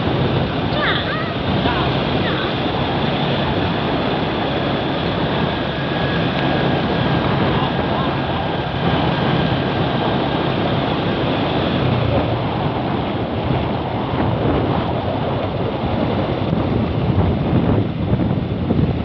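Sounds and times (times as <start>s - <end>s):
low engine hum: 0.0s - 19.0s
wind and road noise: 0.0s - 19.0s
wind buffeting microphone: 0.0s - 19.0s.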